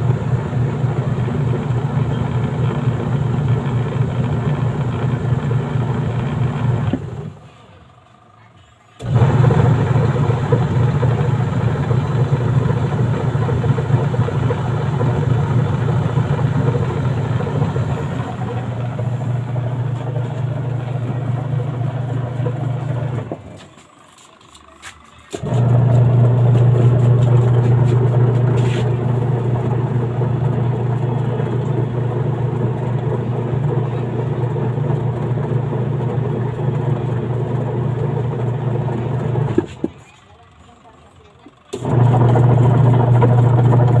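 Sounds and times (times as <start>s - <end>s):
washing machine motor humming: 0.0s - 8.2s, 8.9s - 39.7s, 41.7s - 44.0s.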